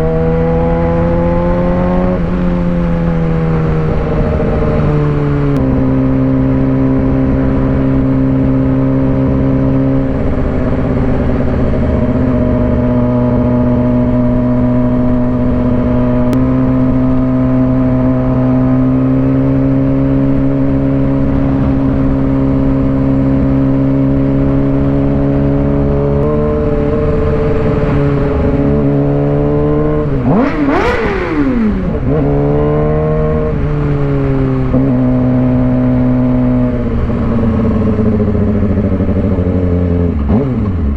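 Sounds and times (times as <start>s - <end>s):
engine revving: 0.0s - 40.9s
motorcycle engine running: 0.0s - 40.9s.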